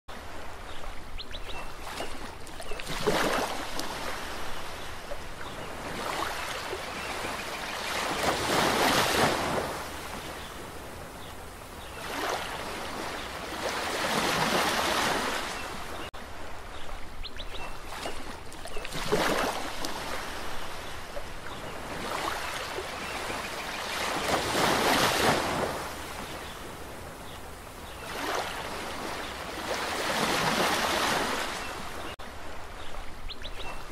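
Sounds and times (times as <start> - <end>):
waves breaking on shore: 0.1 - 33.9.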